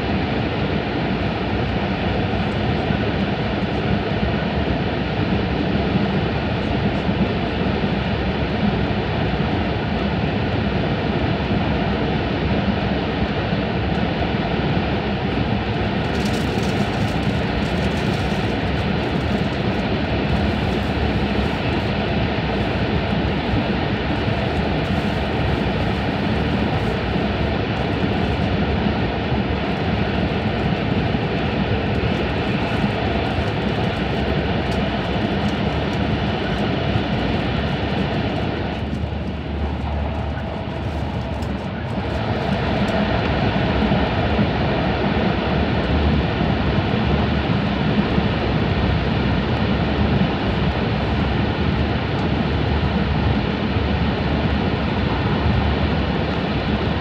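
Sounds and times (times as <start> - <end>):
train rumble in tunnel: 0.0 - 57.0.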